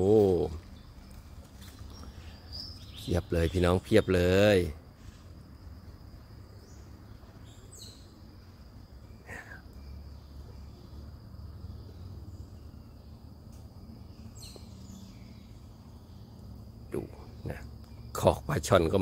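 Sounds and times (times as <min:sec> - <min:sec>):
bird calls: 0:00.0 - 0:05.3, 0:06.4 - 0:19.0.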